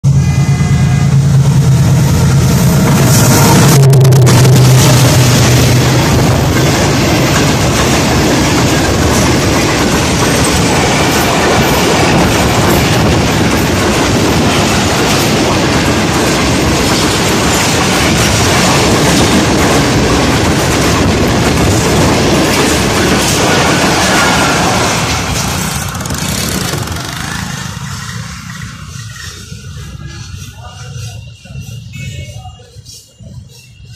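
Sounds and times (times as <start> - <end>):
diesel locomotive engine passing: 0.0 - 33.9
train wheels rumbling on rails: 0.0 - 33.9.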